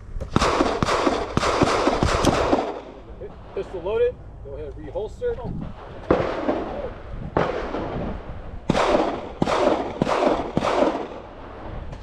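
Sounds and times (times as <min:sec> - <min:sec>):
echoing gunshots: 0:00.2 - 0:03.8, 0:05.6 - 0:12.0.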